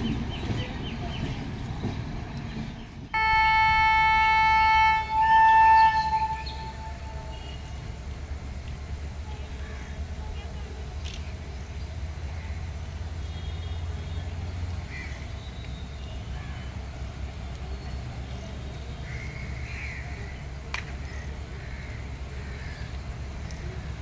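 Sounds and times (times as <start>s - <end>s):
distant traffic rumble: 0.0s - 24.0s.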